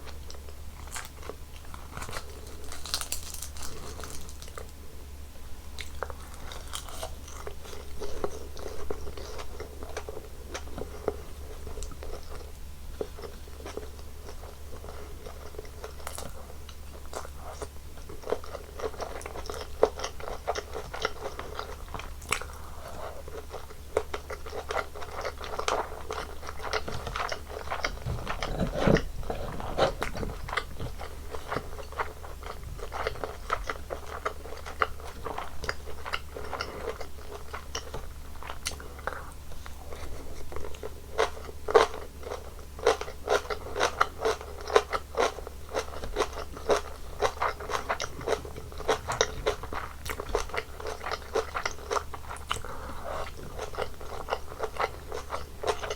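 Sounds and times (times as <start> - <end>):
biting and chewing food: 0.0 - 4.8, 5.8 - 55.9
steady low hum: 0.0 - 55.9.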